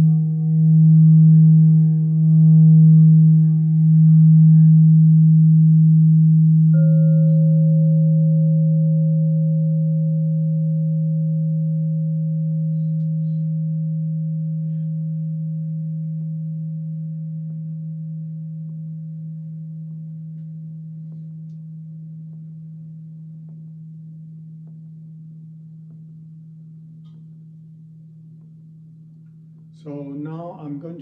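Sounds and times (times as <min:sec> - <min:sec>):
singing bowl ringing deep tone: 0:00.0 - 0:31.0.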